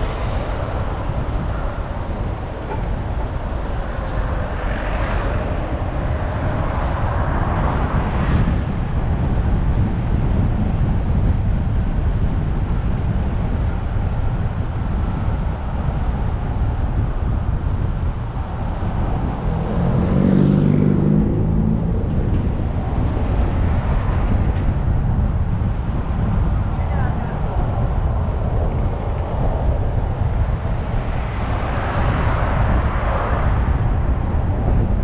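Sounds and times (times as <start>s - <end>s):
car engine and road rumble: 0.0s - 35.0s
deep engine hum: 0.0s - 35.0s.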